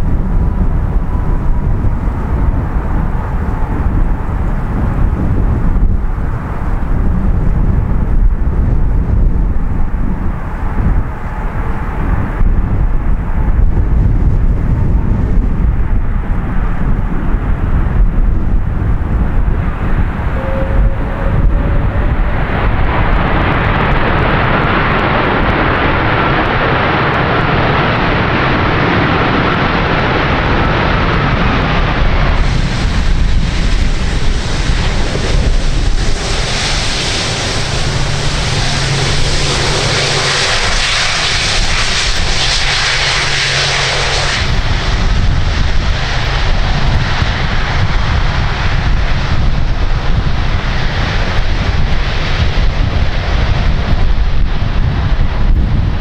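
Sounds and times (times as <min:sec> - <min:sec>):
jet engines running loudly: 0:00.0 - 0:56.0.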